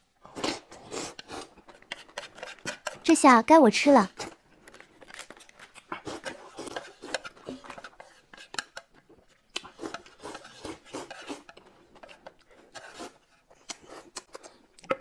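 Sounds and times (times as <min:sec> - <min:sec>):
chewing: 0:00.2 - 0:03.0, 0:04.1 - 0:15.0
chopsticks scraping a plate: 0:00.4 - 0:03.2, 0:04.1 - 0:09.0, 0:09.6 - 0:14.6.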